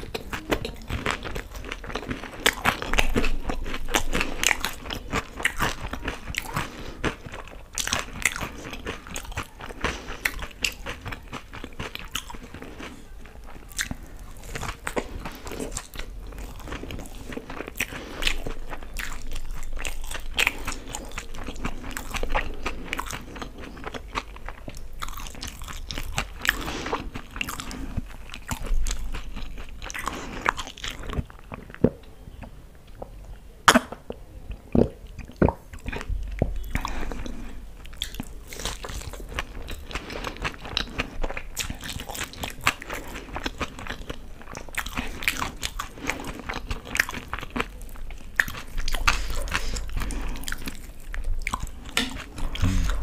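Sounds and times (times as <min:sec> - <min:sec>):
crunching and chewing food: 0:00.0 - 0:53.0.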